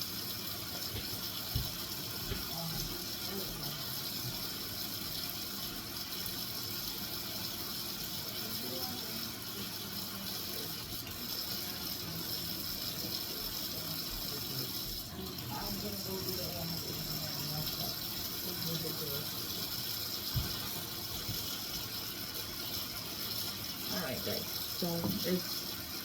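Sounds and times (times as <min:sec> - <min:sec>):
water pouring into sink: 0:00.0 - 0:26.0.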